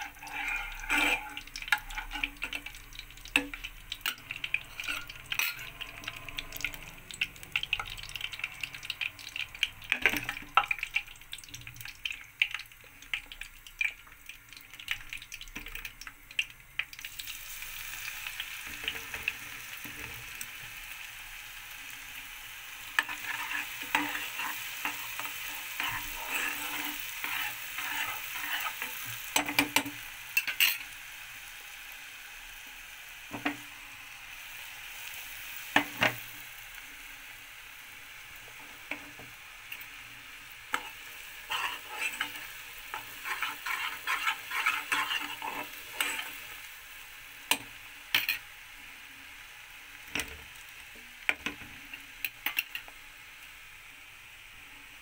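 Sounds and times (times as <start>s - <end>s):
spices sizzling in ghee: 0.0s - 55.0s.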